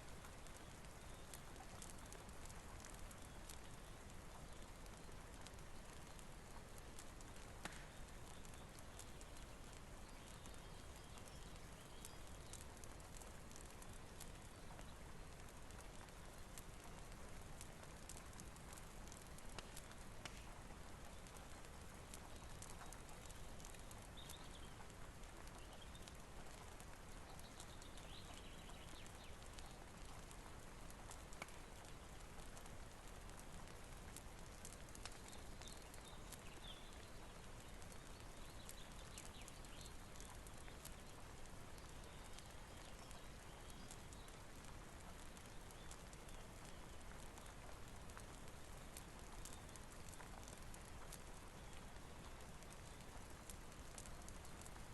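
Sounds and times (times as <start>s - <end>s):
fire crackles: 0.0s - 54.9s.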